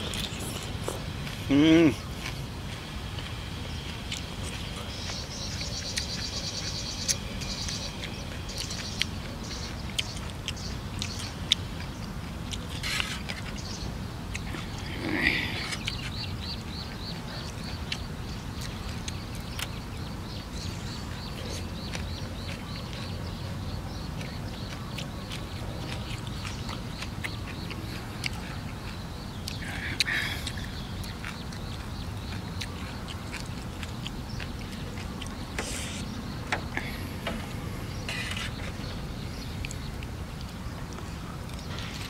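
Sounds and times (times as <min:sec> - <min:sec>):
mouth eating sounds: 0:00.0 - 0:02.9, 0:04.1 - 0:13.7, 0:14.3 - 0:42.0.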